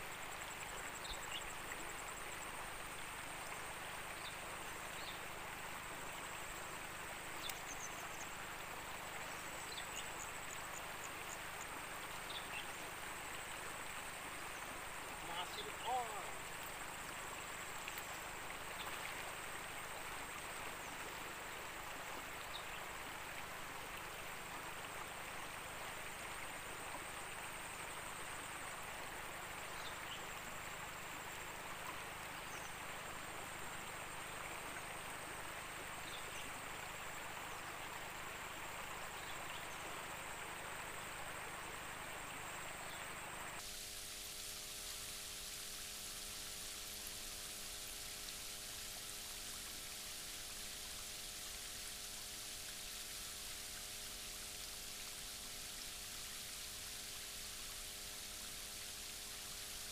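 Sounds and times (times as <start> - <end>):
shallow river water running: 0.0 - 59.9.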